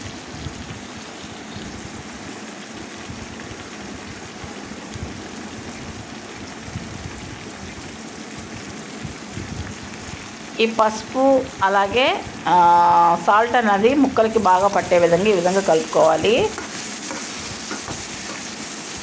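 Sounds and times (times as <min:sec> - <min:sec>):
vegetables sizzling in hot oil: 0:00.0 - 0:19.0.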